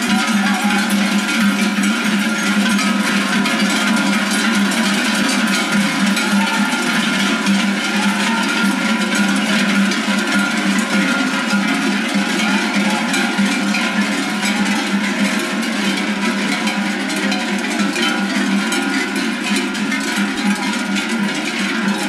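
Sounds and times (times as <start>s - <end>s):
cowbells clanging: 0.0s - 22.0s.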